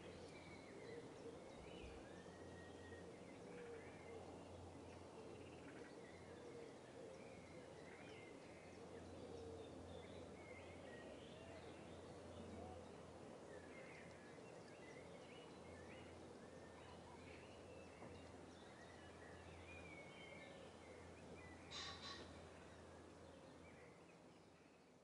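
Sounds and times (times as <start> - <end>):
birds chirping and warbling: 0.0 - 25.0.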